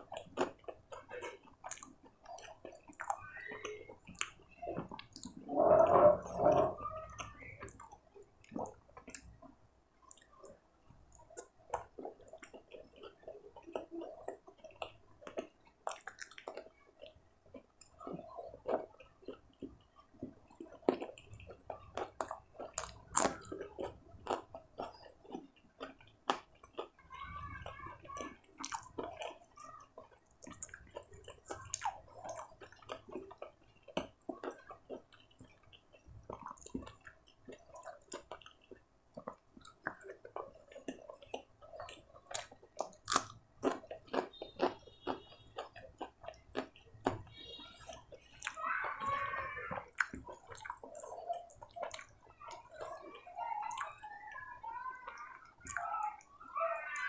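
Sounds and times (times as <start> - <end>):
person chewing and smacking: 0.0 - 54.4, 55.1 - 57.0.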